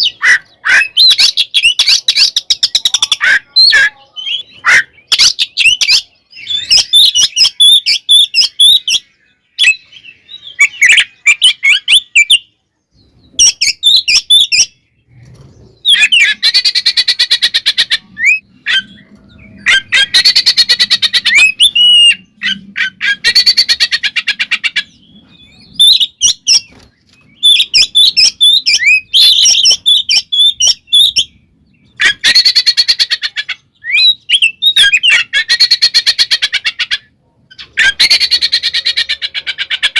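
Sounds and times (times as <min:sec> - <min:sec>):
bird singing varied phrases: 0:00.0 - 0:39.9.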